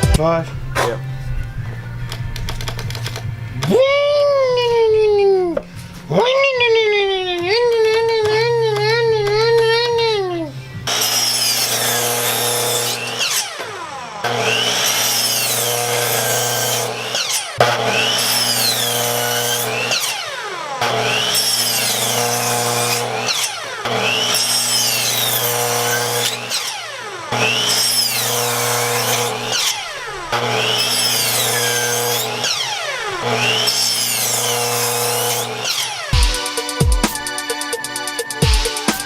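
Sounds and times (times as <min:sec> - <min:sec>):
power saw cutting wood: 0:05.6 - 0:39.0.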